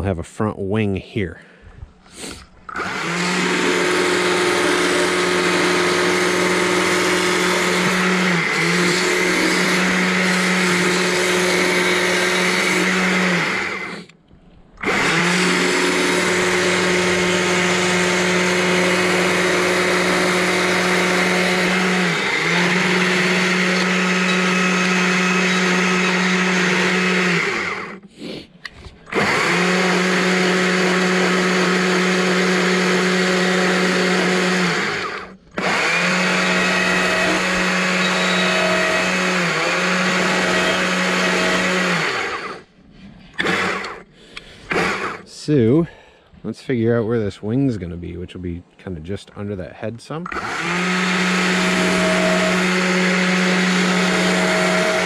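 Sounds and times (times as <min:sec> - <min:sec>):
chainsaw cutting log: 0:02.7 - 0:14.2, 0:14.8 - 0:28.0, 0:29.1 - 0:42.7, 0:43.3 - 0:44.1, 0:44.7 - 0:45.3, 0:50.3 - 0:55.0.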